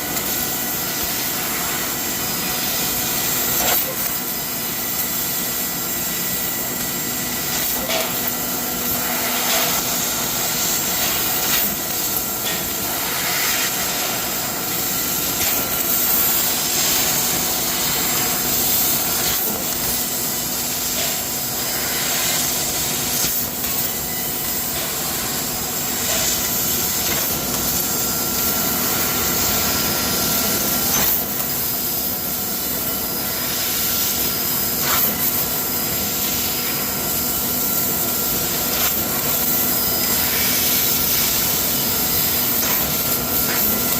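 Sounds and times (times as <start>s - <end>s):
laser cutter hiss and whine: 0.0s - 43.9s.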